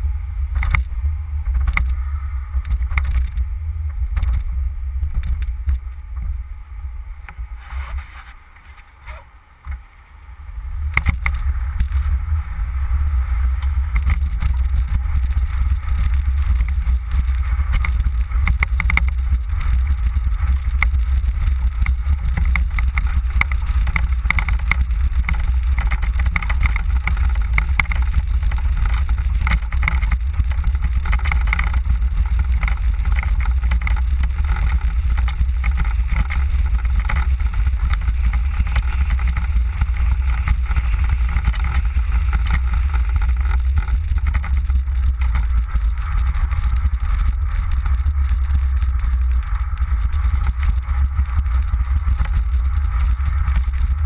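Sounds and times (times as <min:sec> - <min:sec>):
wind and road noise rumble: 0:00.0 - 0:54.0.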